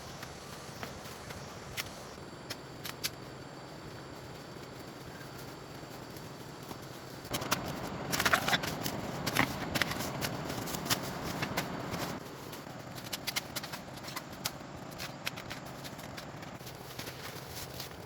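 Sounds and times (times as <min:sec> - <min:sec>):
rustling and handling noise: 0:00.0 - 0:18.0.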